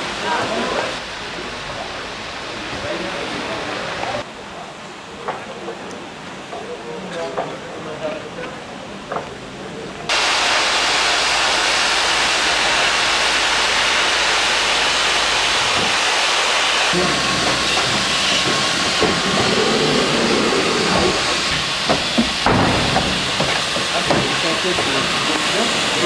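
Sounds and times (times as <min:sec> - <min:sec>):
steady loud hiss: 0:00.0 - 0:05.6, 0:09.7 - 0:26.0.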